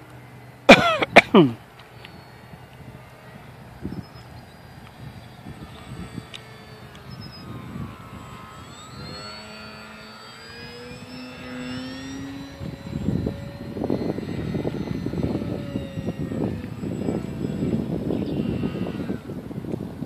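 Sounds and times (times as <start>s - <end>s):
model plane motor whining: 0.0s - 20.0s.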